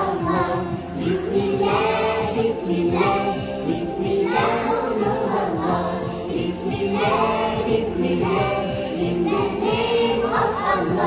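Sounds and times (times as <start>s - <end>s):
backing music with steady beat: 0.0s - 11.0s
girls singing in chorus: 0.0s - 11.0s.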